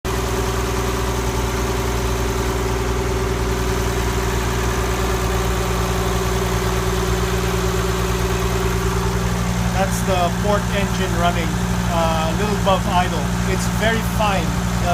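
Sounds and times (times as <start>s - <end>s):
marine diesel engine running: 0.0s - 14.9s.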